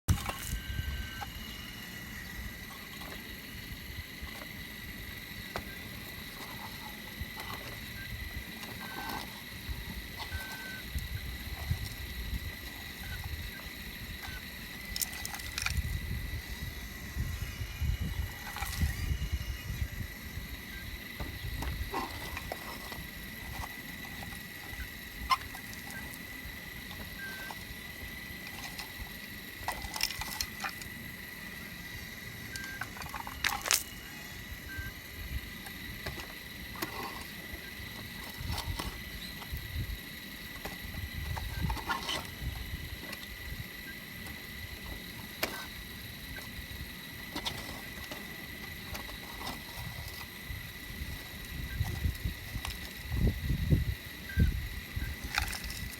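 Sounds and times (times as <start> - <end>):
digging machine engine rumble: 0.0 - 55.9
high-pitched whine: 0.1 - 55.9.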